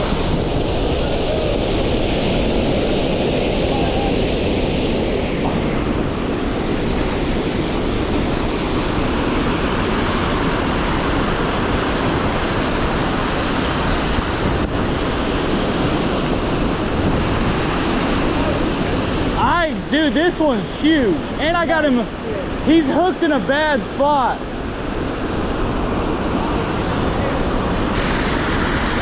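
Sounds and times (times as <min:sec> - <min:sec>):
wind rumbling on microphone: 0:00.0 - 0:19.9, 0:24.4 - 0:29.0
river water rushing: 0:00.0 - 0:29.0.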